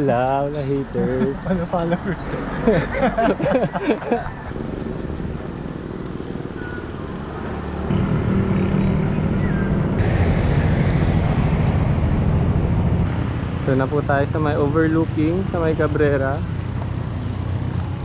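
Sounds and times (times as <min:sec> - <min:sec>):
wind and road rumble: 0:00.0 - 0:18.0.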